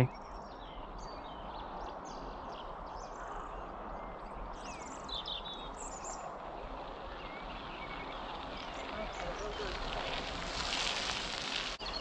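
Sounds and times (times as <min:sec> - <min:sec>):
small birds chirping and singing: 0:00.0 - 0:10.2, 0:11.5 - 0:12.0.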